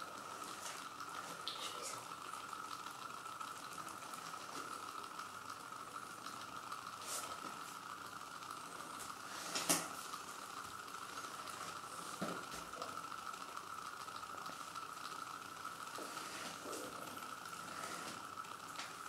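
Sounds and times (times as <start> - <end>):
motor high whine: 0.0 - 19.0
small electric motor crackling: 0.0 - 19.0.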